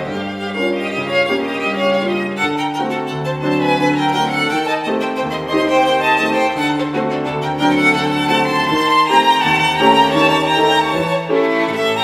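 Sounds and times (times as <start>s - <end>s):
low piano accompaniment: 0.0s - 12.0s
violin melody: 0.0s - 12.0s.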